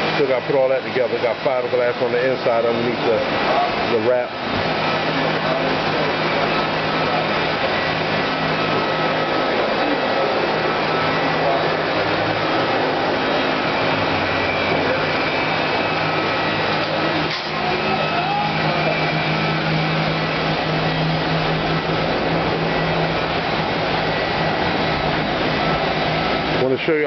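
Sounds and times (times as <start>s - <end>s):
machinery whirring: 0.0s - 27.0s
low hum: 3.2s - 26.6s.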